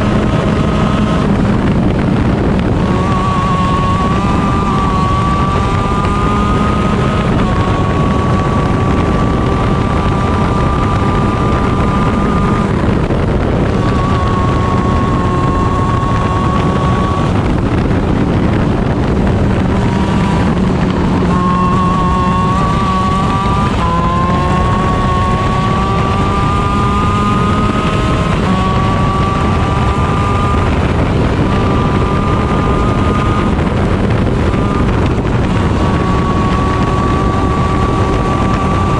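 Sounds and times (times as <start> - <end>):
kart engine revving: 0.0 - 38.9
wind noise on microphone: 0.0 - 38.9.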